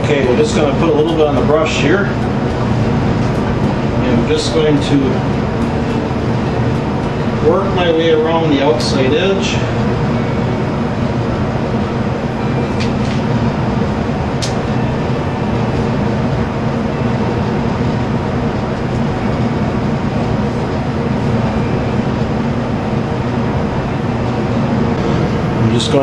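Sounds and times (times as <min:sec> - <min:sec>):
ventilation fan drone: 0:00.0 - 0:26.0.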